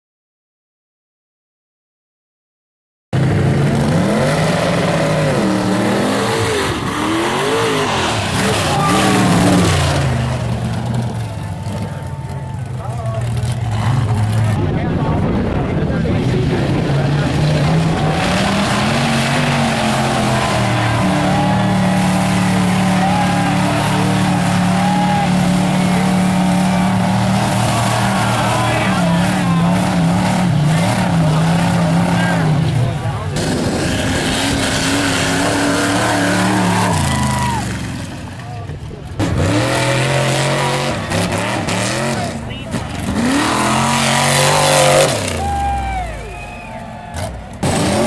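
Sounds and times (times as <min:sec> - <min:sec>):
truck engine revving: 0:03.2 - 0:48.0.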